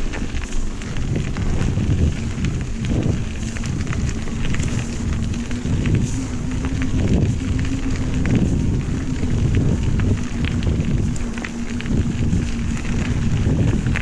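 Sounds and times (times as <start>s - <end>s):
small ticks: 0.0s - 14.0s
steady low hum: 0.0s - 14.0s
wind buffeting microphone: 0.0s - 14.0s.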